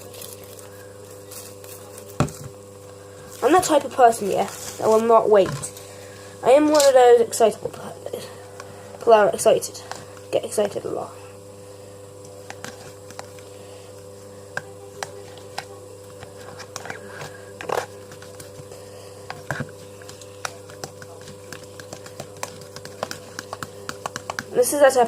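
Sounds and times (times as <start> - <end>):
microwave oven humming: 0.0 - 25.0.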